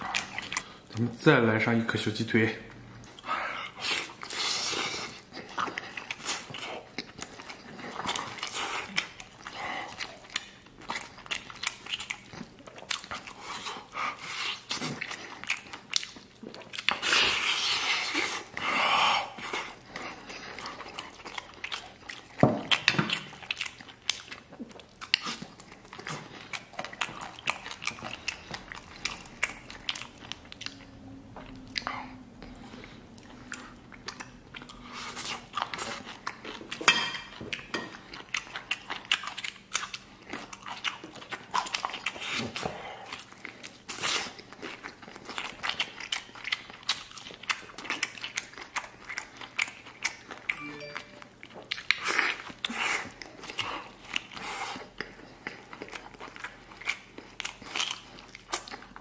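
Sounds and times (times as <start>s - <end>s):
biting and chewing: 0.0s - 1.0s, 3.0s - 59.0s.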